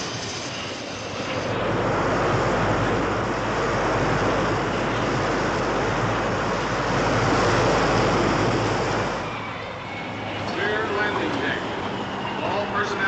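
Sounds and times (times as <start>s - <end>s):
wind: 0.0s - 13.0s
sea water rushing against hull: 1.2s - 13.0s.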